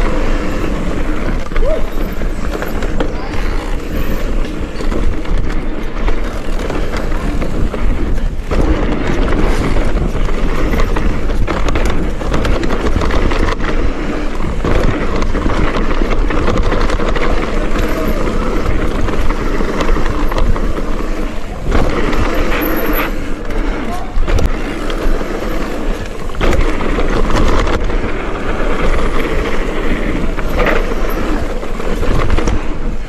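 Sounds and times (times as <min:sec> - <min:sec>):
bike tyres rattling over ground: 0:00.0 - 0:33.0
wind rushing over microphone: 0:00.0 - 0:33.0.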